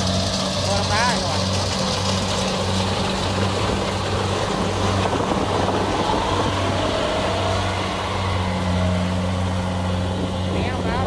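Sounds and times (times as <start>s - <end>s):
combine harvester drone: 0.0s - 11.0s.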